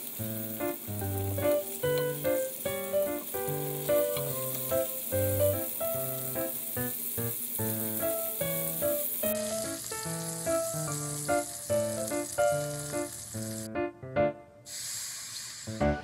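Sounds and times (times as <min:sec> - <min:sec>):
food sizzling in oil: 0:00.0 - 0:13.8, 0:14.7 - 0:16.0
light background music: 0:00.4 - 0:14.4.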